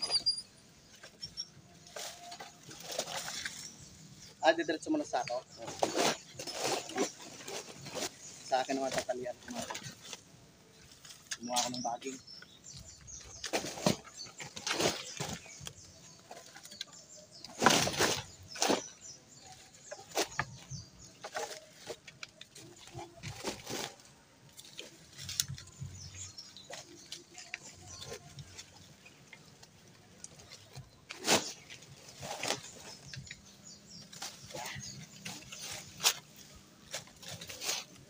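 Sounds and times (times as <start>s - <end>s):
plastic sack rustling: 1.8s - 10.2s, 10.8s - 38.0s.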